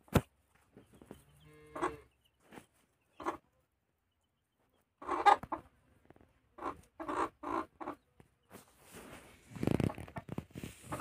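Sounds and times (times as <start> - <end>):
hen clucking: 0.6 - 8.7, 9.6 - 11.0.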